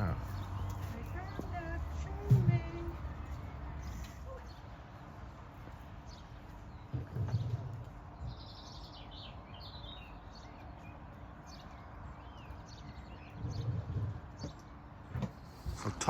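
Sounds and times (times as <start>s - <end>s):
low outdoor background: 0.0s - 16.0s
small birds chirping: 0.0s - 16.0s.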